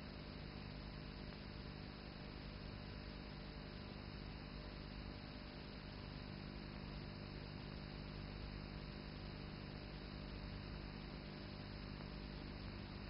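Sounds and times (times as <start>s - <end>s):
film soundtrack hiss and hum: 0.0s - 13.0s.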